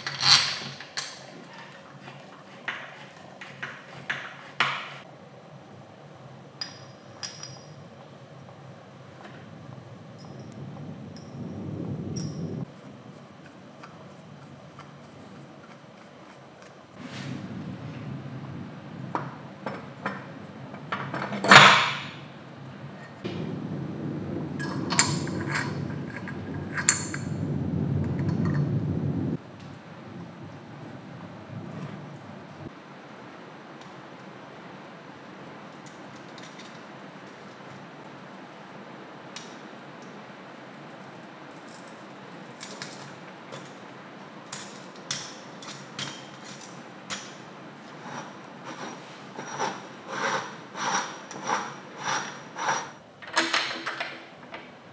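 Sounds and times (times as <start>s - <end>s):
steady low hiss: 0.0s - 54.9s.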